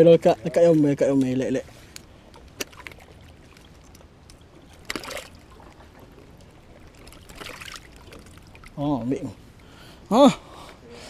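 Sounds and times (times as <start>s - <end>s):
faint moving water: 0.0s - 11.0s.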